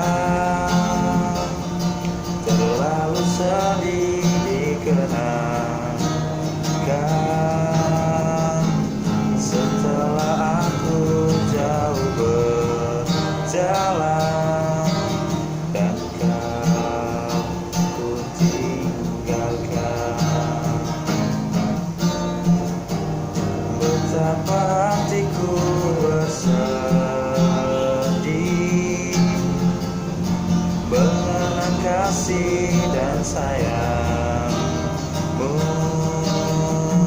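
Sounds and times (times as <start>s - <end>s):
acoustic guitar strumming: 0.0s - 37.0s
held melody line: 0.0s - 37.0s.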